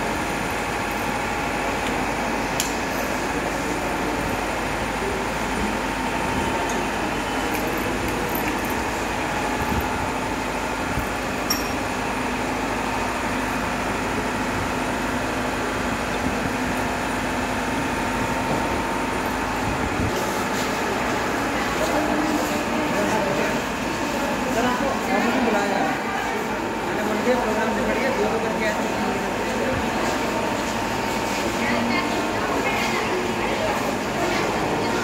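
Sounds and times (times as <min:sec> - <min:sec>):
steady humming noise: 0:00.0 - 0:35.0.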